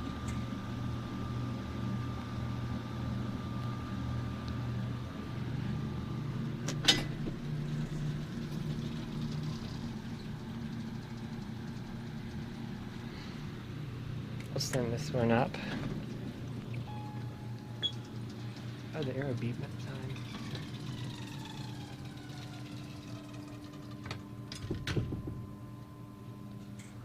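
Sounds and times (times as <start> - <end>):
elevator machinery hum: 0.0 - 27.0.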